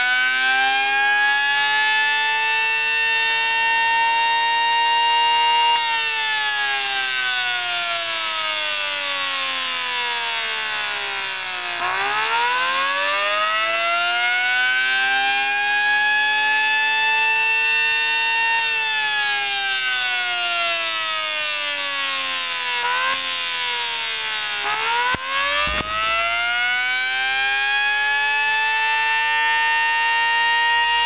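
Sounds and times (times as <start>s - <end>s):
electronic siren wailing: 0.0s - 31.0s.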